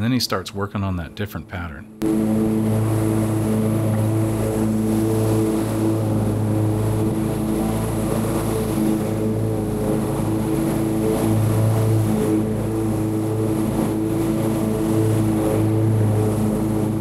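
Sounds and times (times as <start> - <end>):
lawn mower engine running: 2.0 - 17.0.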